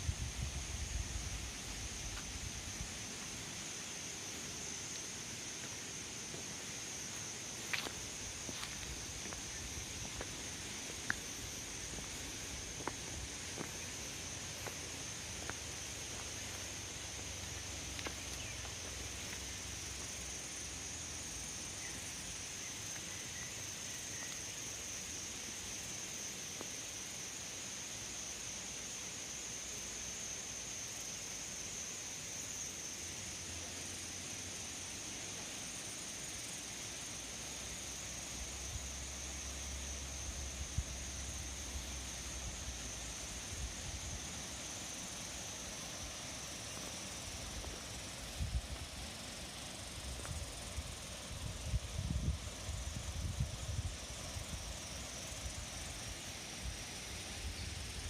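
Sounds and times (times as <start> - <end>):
constant hiss: 0.0 - 58.0
insects droning: 0.0 - 58.0.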